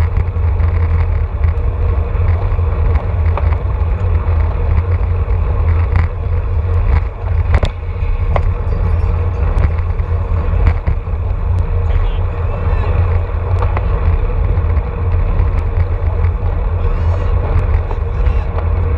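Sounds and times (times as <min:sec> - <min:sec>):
sharp clicks and ticks: 0:00.0 - 0:18.9
wind buffeting microphone: 0:00.0 - 0:18.9.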